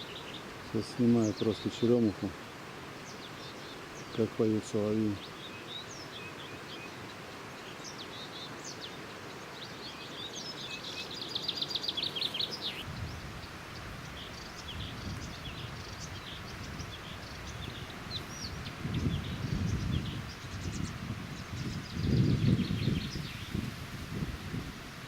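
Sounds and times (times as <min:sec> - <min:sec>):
nightingales singing: 0:00.0 - 0:02.4, 0:03.0 - 0:23.7
steady hiss: 0:00.0 - 0:25.0.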